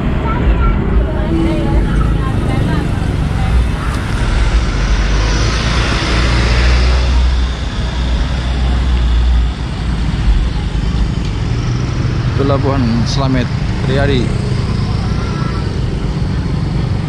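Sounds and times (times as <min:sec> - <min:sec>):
car engines passing: 0:00.0 - 0:17.0
low traffic rumble: 0:00.0 - 0:17.0.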